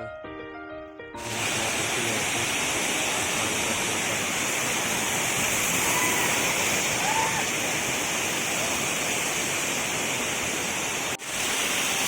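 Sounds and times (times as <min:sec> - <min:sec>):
waterfall rushing: 0:01.2 - 0:12.0.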